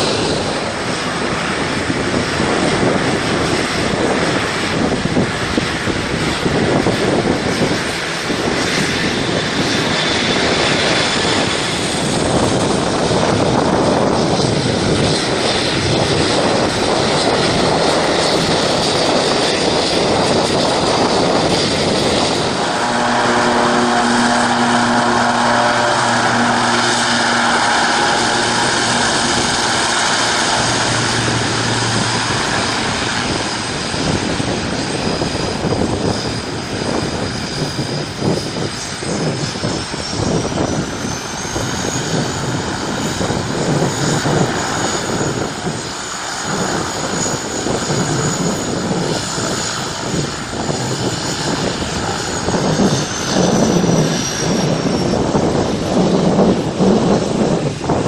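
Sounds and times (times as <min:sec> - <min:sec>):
gusty rushing noise: 0:00.0 - 0:58.0
turboprop engines droning: 0:00.0 - 0:58.0.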